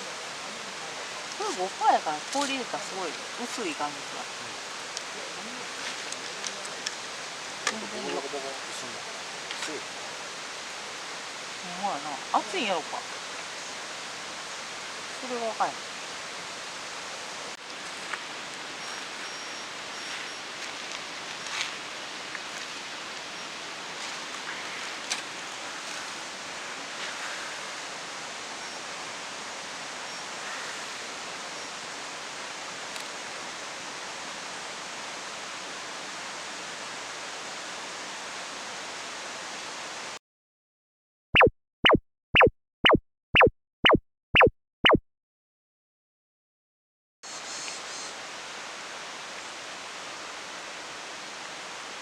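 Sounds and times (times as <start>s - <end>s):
outdoor background hiss: 0.0s - 40.2s, 47.2s - 52.0s.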